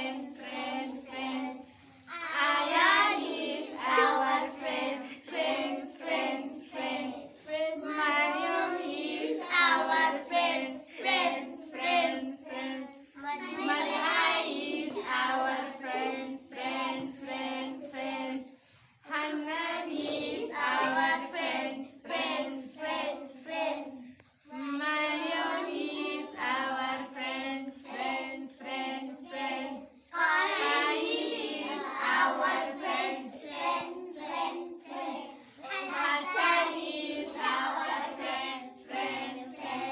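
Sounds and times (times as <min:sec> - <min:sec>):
young children singing: 0:00.0 - 0:39.9.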